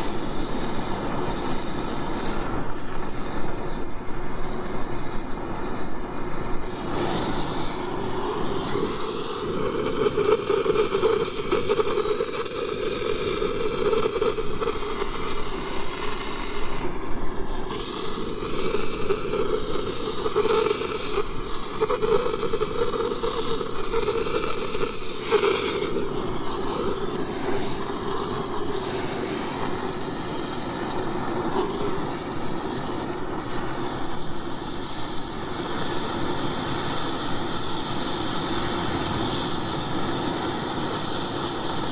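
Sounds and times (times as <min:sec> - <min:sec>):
gas torch hissing: 0:00.0 - 0:41.9.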